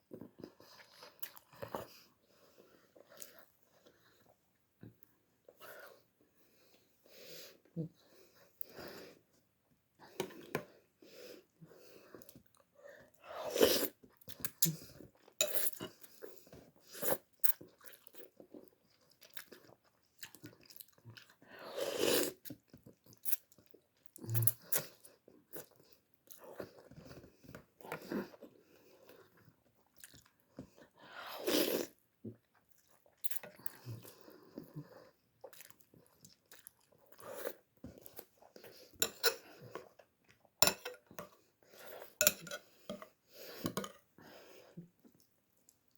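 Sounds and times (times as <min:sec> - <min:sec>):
person chewing noodles: 0:00.1 - 0:04.4, 0:13.4 - 0:45.9.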